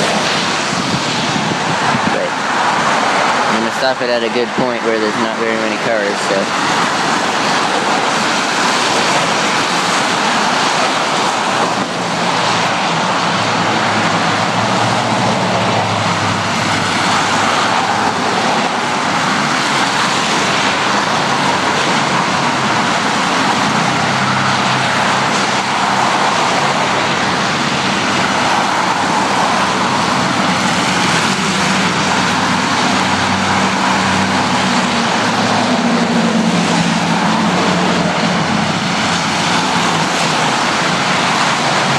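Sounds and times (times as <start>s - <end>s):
cars and trucks passing: 0.0s - 41.9s
engine rising in pitch: 0.0s - 41.9s.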